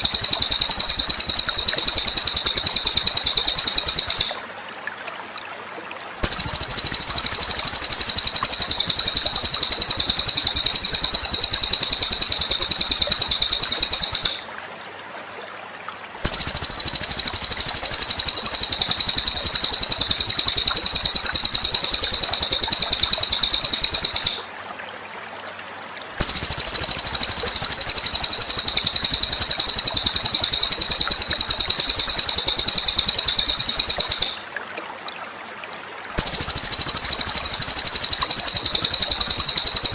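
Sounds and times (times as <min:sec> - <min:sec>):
songbird high-pitched trill: 0:00.0 - 0:04.4, 0:06.2 - 0:14.5, 0:16.2 - 0:24.5, 0:26.2 - 0:34.4, 0:36.2 - 0:39.9.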